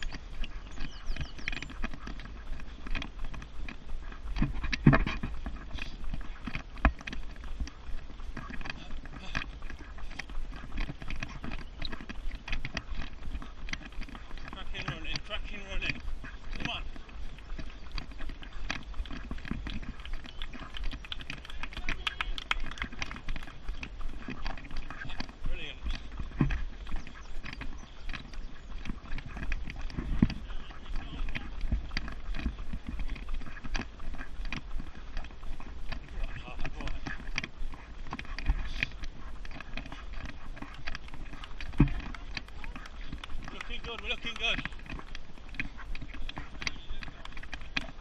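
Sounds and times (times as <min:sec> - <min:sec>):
running footfalls on pavement: 0:00.0 - 0:48.0
stroller frame and wheels rattling: 0:00.0 - 0:48.0
wind rumbling on microphone: 0:00.0 - 0:48.0.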